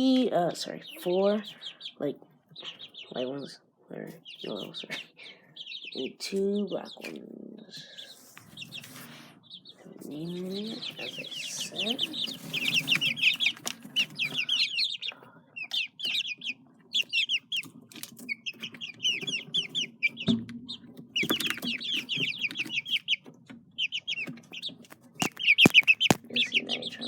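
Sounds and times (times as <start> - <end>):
chickens peeping: 0.0 - 27.0.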